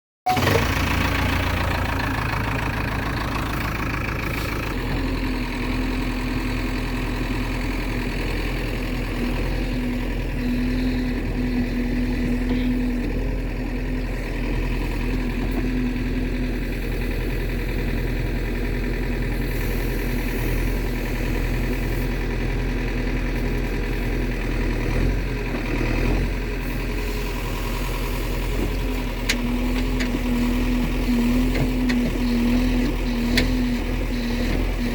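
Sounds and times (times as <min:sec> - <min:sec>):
diesel engines running at low revs: 0:00.3 - 0:34.9.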